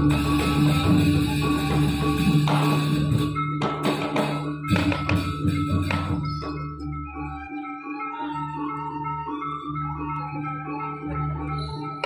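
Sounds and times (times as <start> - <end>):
gamelan music: 0.0 - 12.0.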